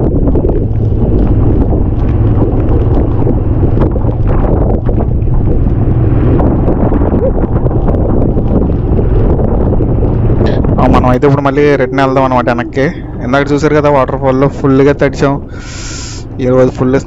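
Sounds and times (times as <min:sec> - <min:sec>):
vehicle running noise: 0:00.0 - 0:17.0
wind buffeting microphone: 0:00.0 - 0:17.0.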